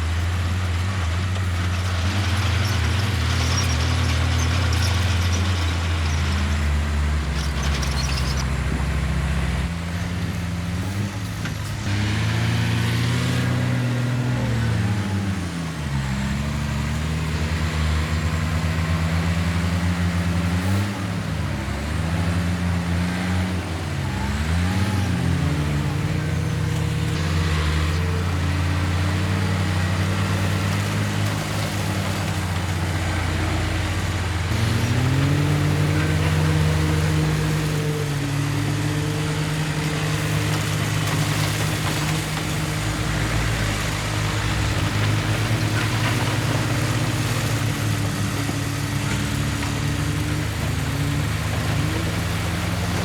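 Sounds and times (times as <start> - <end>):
heavy diesel engines working: 0.0 - 53.0.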